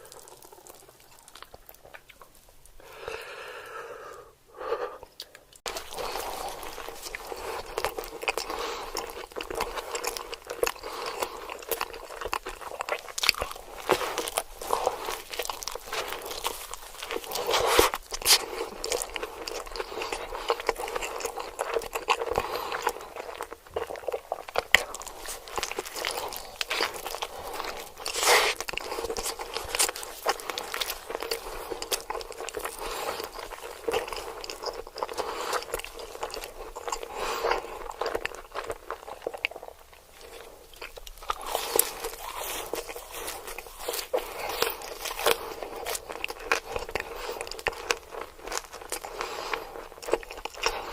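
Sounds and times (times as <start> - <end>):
crunchy bites and chewing: 0.0 - 2.4, 5.0 - 50.9.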